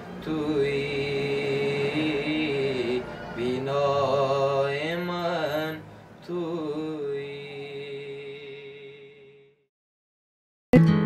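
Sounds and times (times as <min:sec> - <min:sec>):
man singing wordless lament: 0:00.2 - 0:09.4.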